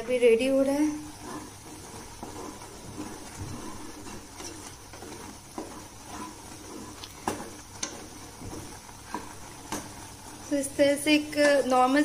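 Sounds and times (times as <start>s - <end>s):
porridge simmering in a pan: 0.0s - 12.0s
spatula scraping and tapping a pan: 0.4s - 12.0s.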